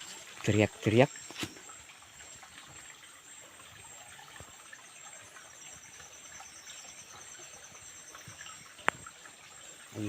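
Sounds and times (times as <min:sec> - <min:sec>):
forest stream trickling: 0:00.0 - 0:10.0.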